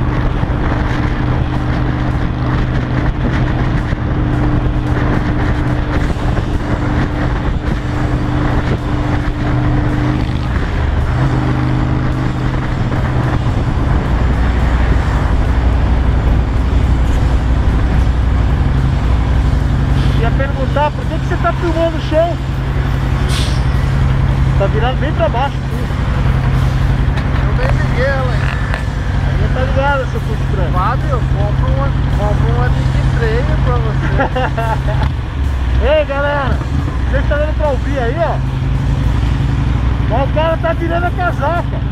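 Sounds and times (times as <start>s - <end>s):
motorcycle engine running: 0.0s - 41.9s
wind and road rush: 0.0s - 41.9s.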